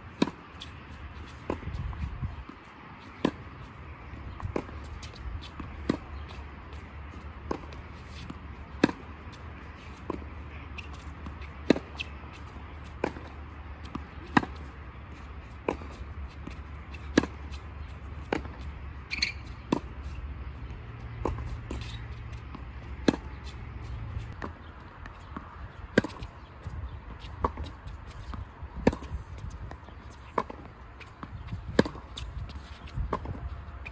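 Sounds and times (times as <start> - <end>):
tennis ball bounces: 0.1 - 33.9.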